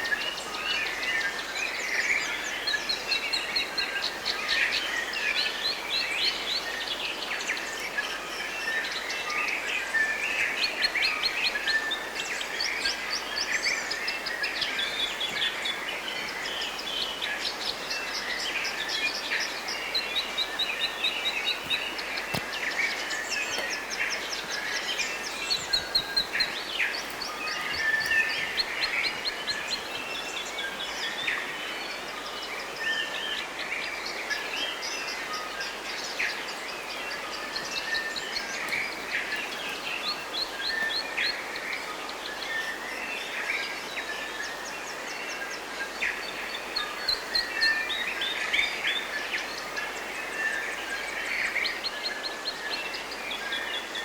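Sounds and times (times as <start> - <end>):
forest birds singing: 0.0 - 54.0.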